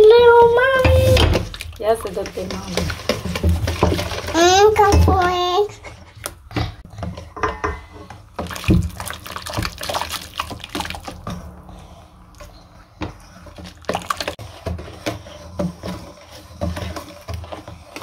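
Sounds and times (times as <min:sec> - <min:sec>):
liquid sloshing in bowl: 0:00.4 - 0:18.0.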